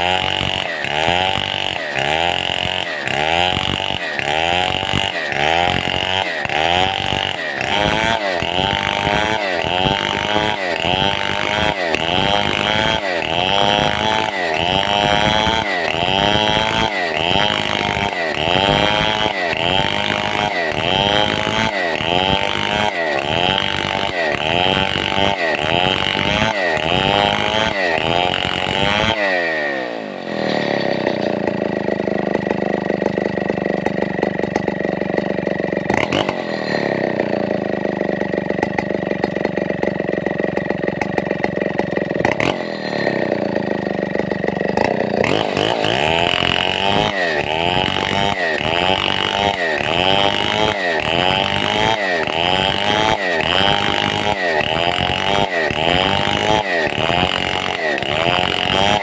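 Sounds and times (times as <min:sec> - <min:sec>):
chainsaw cutting timber: 0:00.0 - 0:59.0.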